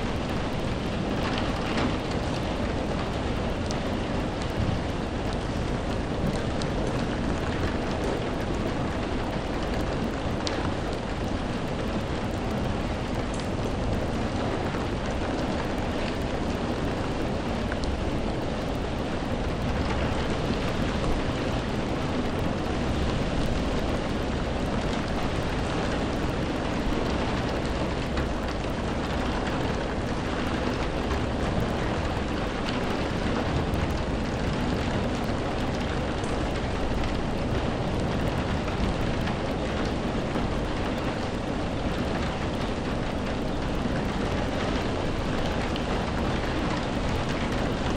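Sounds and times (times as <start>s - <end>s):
steady rain hiss: 0.0s - 47.9s
raindrop ticks: 0.1s - 47.9s.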